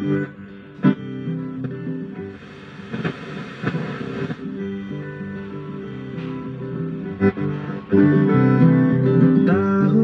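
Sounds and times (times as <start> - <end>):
guitar music from cassette stereo: 0.0 - 10.0.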